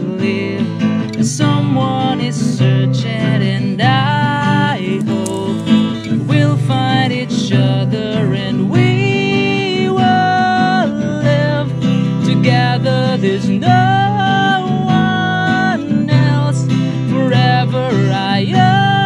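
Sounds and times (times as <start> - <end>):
acoustic guitar strumming: 0.0 - 19.0
man singing: 0.0 - 19.0.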